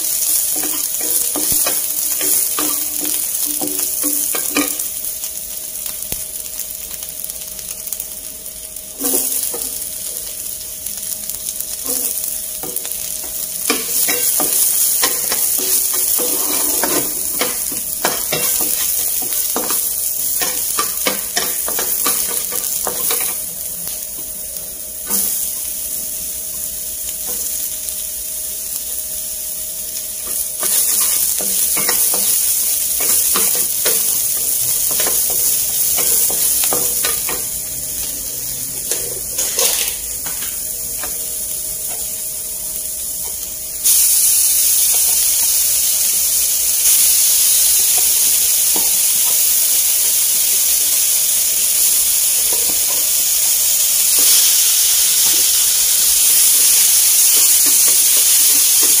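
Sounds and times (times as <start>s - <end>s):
vegetables sizzling in a frying pan: 0.0s - 59.0s.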